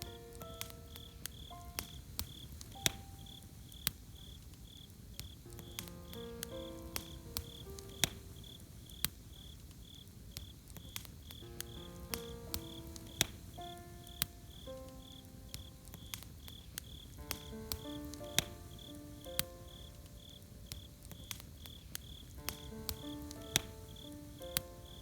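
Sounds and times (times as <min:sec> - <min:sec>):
soft melody of held notes: 0:00.0 - 0:03.9, 0:05.4 - 0:09.3, 0:11.4 - 0:25.0
campfire crackling and popping: 0:00.0 - 0:25.0
crickets chirping: 0:00.0 - 0:25.0.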